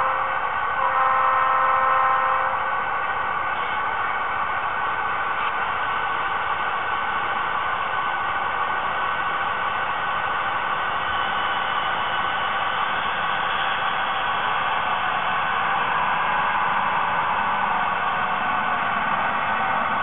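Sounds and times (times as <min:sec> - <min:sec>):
model train engine drone: 0:00.0 - 0:20.0.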